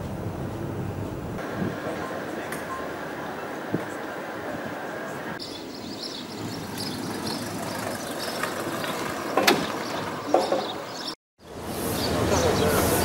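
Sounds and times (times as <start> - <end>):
street background hum: 0.0 - 13.0.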